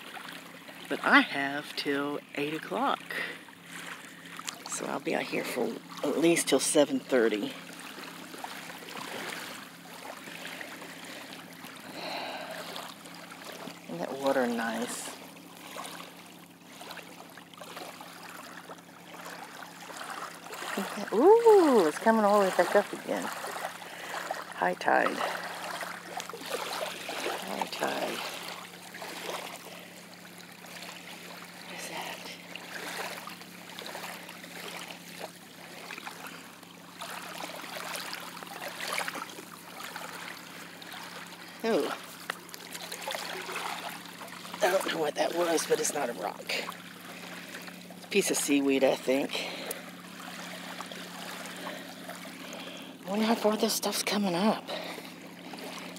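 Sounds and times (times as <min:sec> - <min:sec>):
waves washing over sand: 0:00.0 - 0:53.8
faint steady hum: 0:00.0 - 0:55.9.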